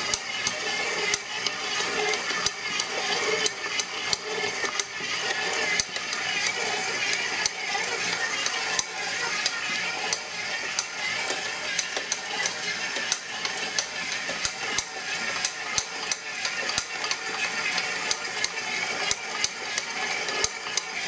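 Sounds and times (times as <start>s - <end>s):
stand mixer motor hum: 0.0s - 21.0s.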